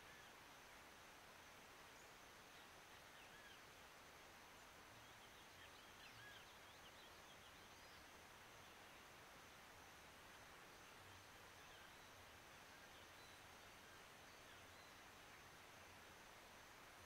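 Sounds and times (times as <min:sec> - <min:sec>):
faint distant bird chirps: 0:01.4 - 0:17.0.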